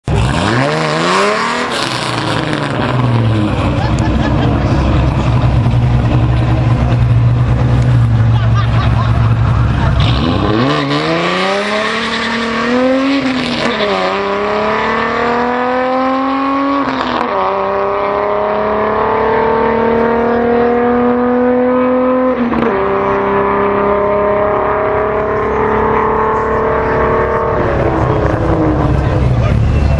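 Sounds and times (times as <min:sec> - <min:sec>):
car engine at full throttle: 0:00.0 - 0:29.9.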